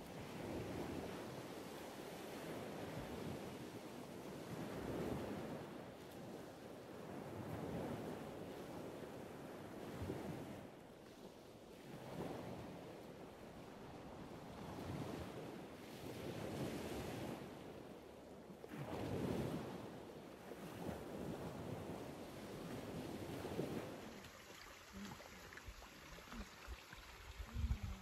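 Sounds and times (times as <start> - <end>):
wind on microphone: 0.0 - 10.7, 11.7 - 18.0, 18.7 - 28.0.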